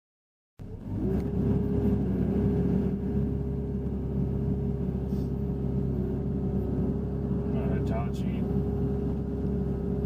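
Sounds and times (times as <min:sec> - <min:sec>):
diesel engine running: 0:00.6 - 0:10.0
steady whine: 0:00.6 - 0:10.0.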